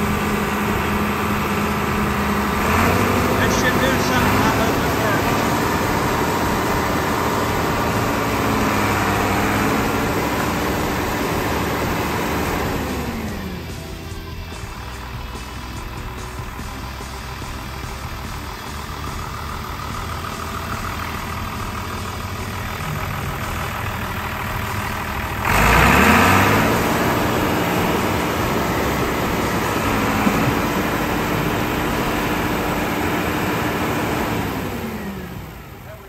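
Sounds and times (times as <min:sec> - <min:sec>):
tractor diesel engine revving: 0:00.0 - 0:36.0.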